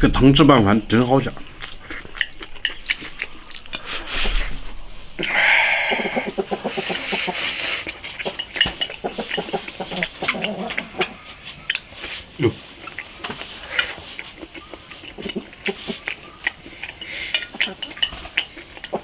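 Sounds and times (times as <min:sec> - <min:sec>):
eating sounds: 0:00.0 - 0:19.0
chicken clucking: 0:01.6 - 0:19.0.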